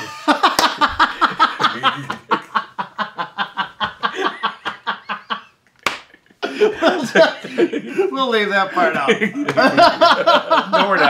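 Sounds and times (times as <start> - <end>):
men laughing: 0.0 - 11.0.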